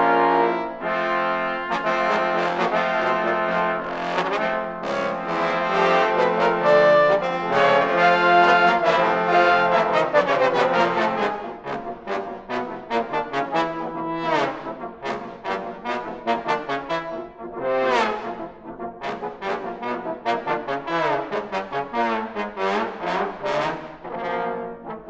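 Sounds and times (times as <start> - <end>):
trombone ensemble playing: 0.0 - 25.0.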